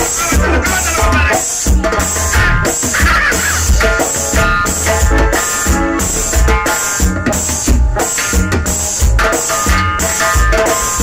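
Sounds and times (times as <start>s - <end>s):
drums keeping steady beat: 0.0s - 11.0s
live cumbia band playing: 0.0s - 11.0s.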